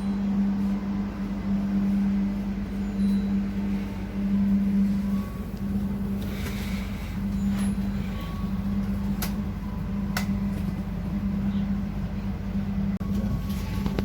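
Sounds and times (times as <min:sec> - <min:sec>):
train carriage hum: 0:00.0 - 0:14.0.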